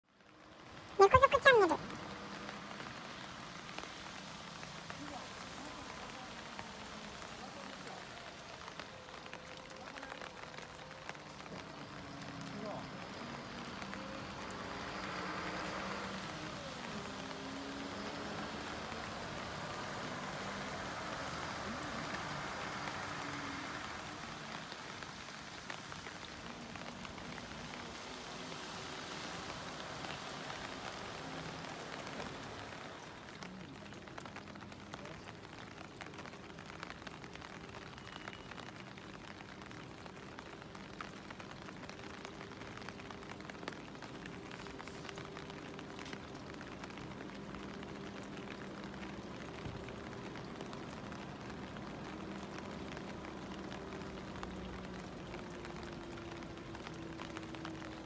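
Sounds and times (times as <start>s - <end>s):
heavy rain on flooded asphalt: 0.0s - 58.0s.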